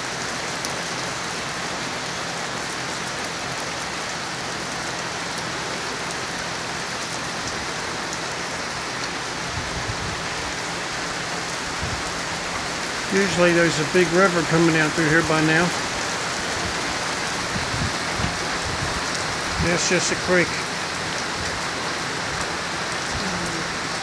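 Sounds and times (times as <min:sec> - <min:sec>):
rain on pavement and car: 0:00.0 - 0:24.0.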